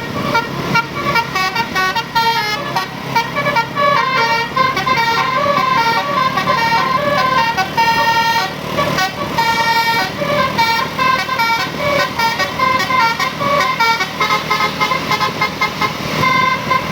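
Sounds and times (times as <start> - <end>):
multi-tone bus horn melody: 0.0 - 16.9.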